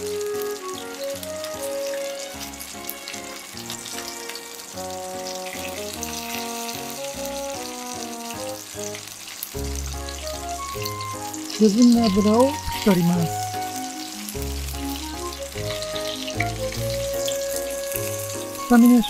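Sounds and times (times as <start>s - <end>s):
light background melody: 0.0s - 19.0s
meat sizzling in hot oil: 0.0s - 19.0s.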